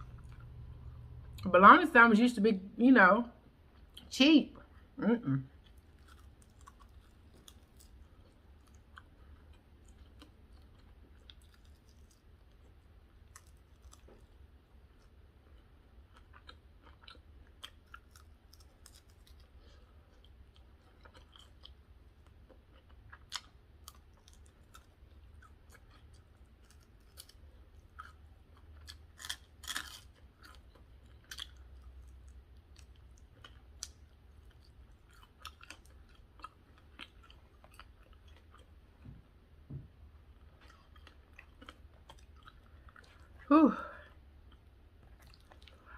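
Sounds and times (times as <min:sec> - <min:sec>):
person chewing food: 0:00.0 - 0:01.4, 0:05.5 - 0:43.5, 0:44.1 - 0:45.9.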